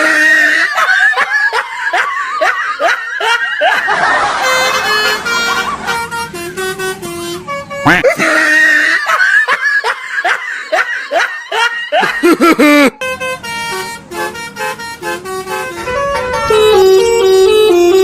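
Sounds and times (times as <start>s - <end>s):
multi-tone bus horn playing: 0.0s - 9.2s, 12.8s - 18.0s.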